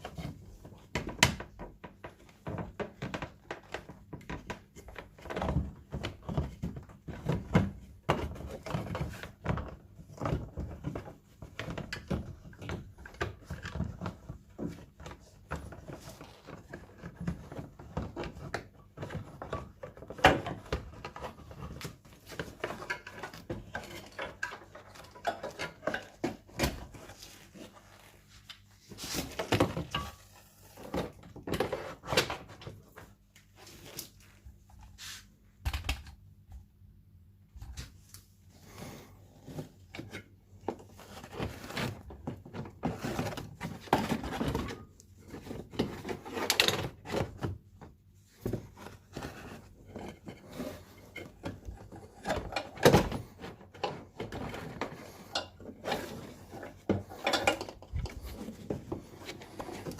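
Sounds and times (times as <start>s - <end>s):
clatter of parts and tools: 0.1s - 33.2s, 39.9s - 59.9s.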